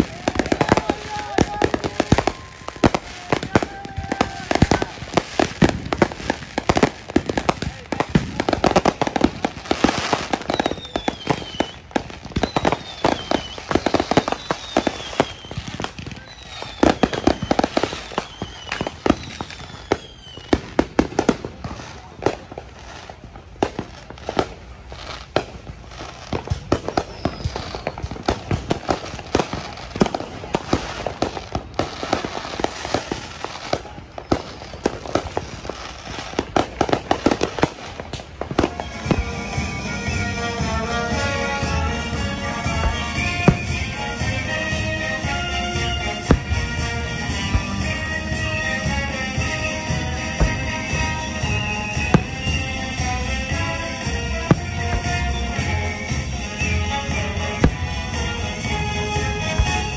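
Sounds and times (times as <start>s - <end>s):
falling firework whistles: 0.0s - 59.9s
firecrackers popping: 0.0s - 59.9s.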